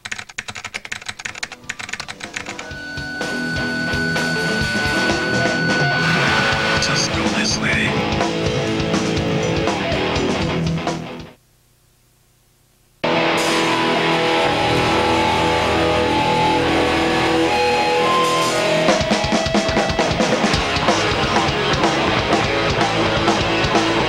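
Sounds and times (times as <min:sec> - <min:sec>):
hardcore band playing: 0:02.2 - 0:11.3, 0:13.0 - 0:24.0
drum kit: 0:02.2 - 0:11.4, 0:13.0 - 0:24.0
electric guitars ringing chords: 0:02.3 - 0:11.3, 0:13.0 - 0:24.0.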